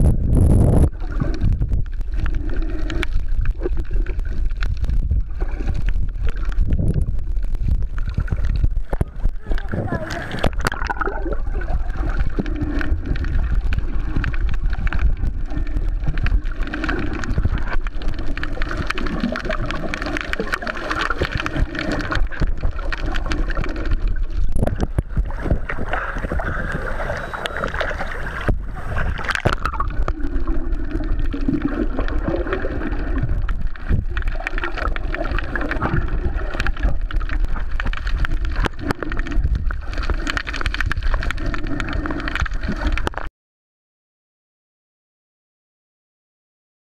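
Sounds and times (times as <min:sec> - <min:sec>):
underwater rumble against housing: 0:00.0 - 0:43.3
crackle of small clicks: 0:00.2 - 0:43.3.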